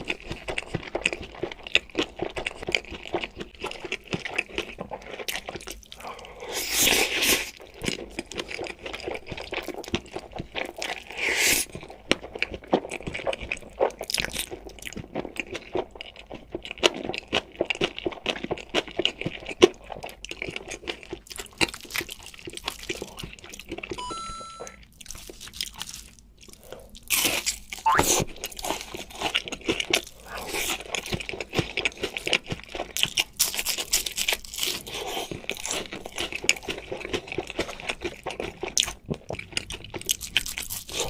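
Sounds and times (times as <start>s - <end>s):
crunchy bites and chewing: 0.0s - 24.0s, 24.9s - 41.0s.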